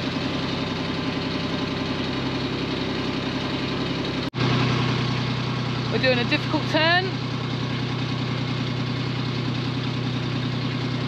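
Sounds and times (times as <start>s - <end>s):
boat engine running steadily: 0.0s - 11.0s.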